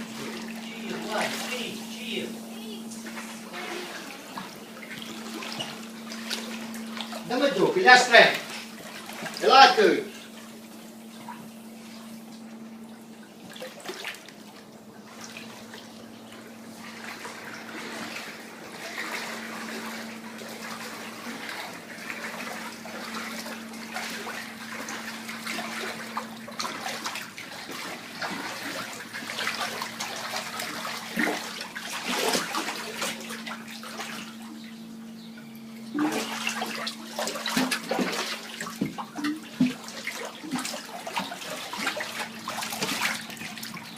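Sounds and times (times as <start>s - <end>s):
steady low hum: 0.0s - 43.9s
water splashing and sloshing: 0.0s - 43.9s.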